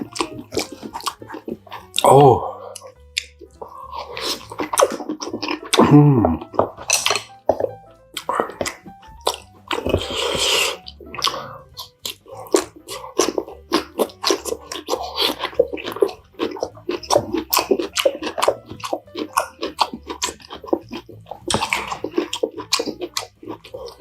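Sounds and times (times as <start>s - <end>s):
person chewing crisply: 0.0s - 24.0s.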